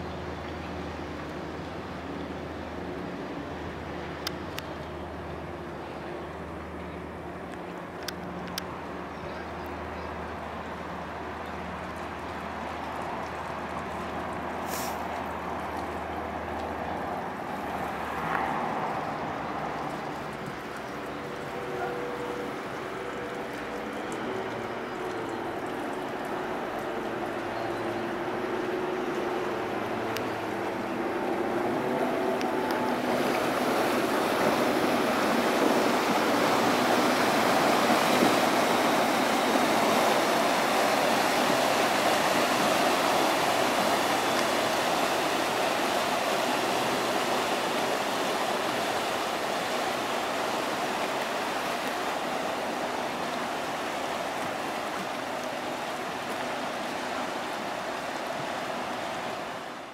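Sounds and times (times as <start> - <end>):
faint diesel engine hum: 0.0 - 59.9
rush of churning water: 0.0 - 59.9.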